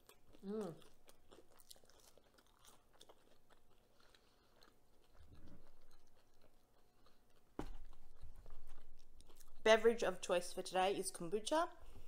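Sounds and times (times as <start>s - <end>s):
faint chewing with mouth clicks: 0.0s - 9.7s.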